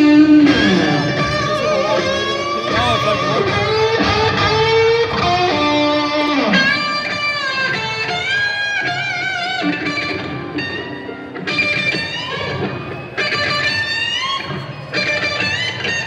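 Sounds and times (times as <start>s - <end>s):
electric guitar bending notes: 0.0s - 16.0s
live rock band playing: 0.0s - 16.0s.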